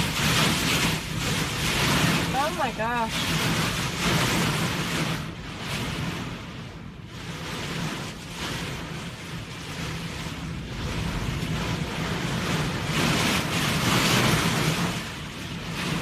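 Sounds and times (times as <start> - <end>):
heavy rain: 0.0 - 16.0
storm wind: 0.0 - 16.0
wind buffeting microphone: 0.0 - 16.0.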